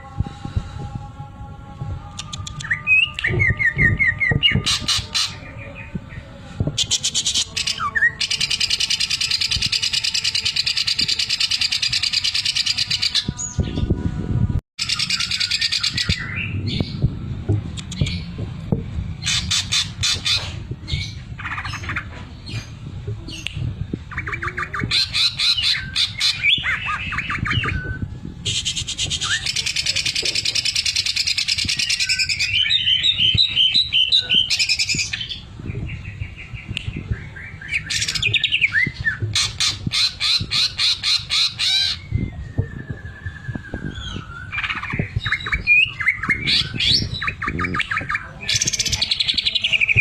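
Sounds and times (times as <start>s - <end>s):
steady low hum: 0.0s - 8.0s, 13.3s - 50.0s.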